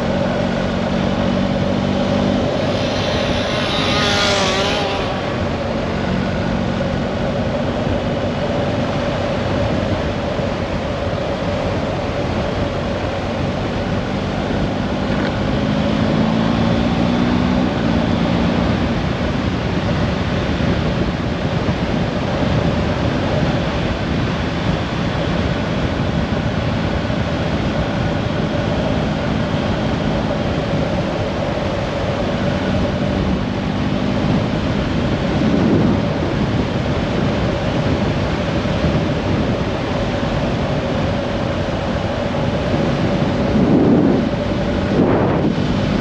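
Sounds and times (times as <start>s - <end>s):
moving vehicle running noise: 0.0s - 46.0s.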